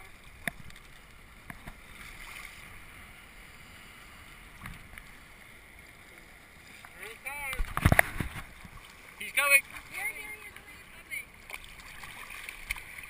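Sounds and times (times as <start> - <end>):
sea water lapping: 0.0 - 13.0.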